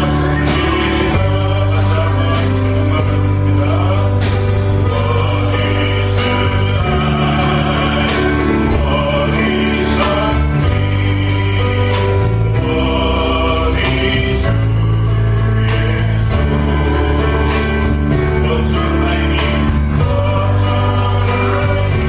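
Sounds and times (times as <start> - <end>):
bass and steady beat: 0.0 - 22.0
group singing worship song: 0.0 - 22.0.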